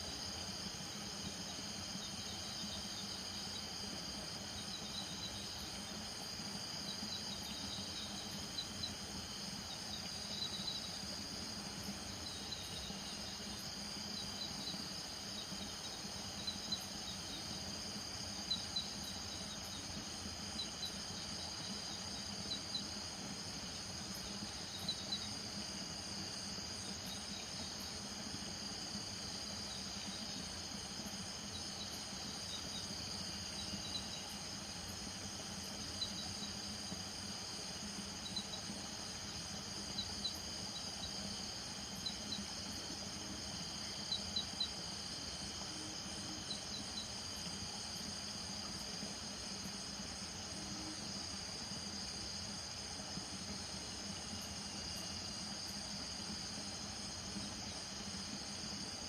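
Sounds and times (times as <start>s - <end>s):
insect trill: 0.0s - 59.0s
low steady hum: 0.0s - 59.0s.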